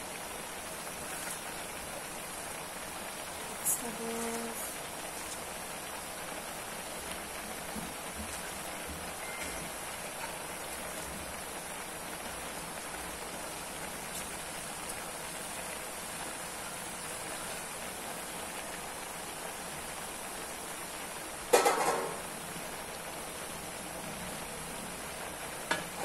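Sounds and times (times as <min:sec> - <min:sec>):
wok hissing: 0:00.0 - 0:26.0.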